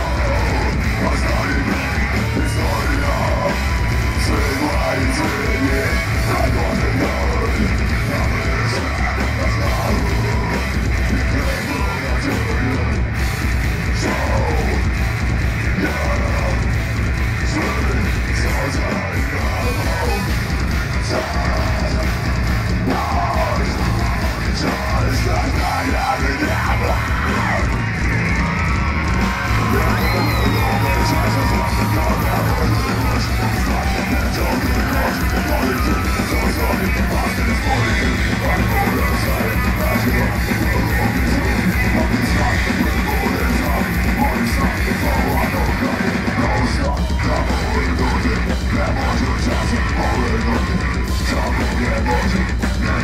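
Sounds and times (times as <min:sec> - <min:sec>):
harsh shouted vocals: 0:00.0 - 0:53.0
metal band playing: 0:00.0 - 0:53.0.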